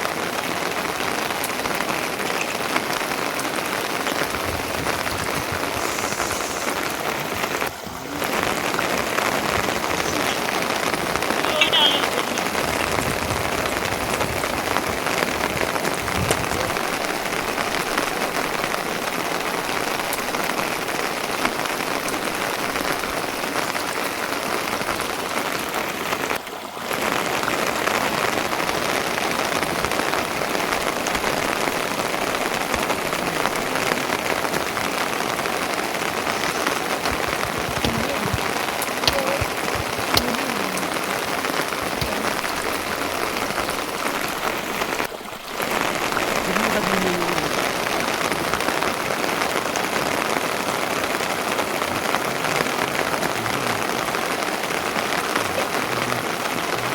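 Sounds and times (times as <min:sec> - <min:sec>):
raindrop ticks: 0:00.0 - 0:56.9
steady rain falling: 0:00.0 - 0:56.9.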